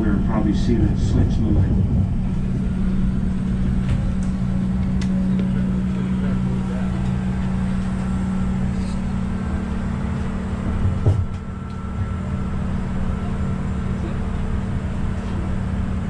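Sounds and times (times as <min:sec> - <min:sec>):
train rumbling from inside coach: 0:00.0 - 0:16.0.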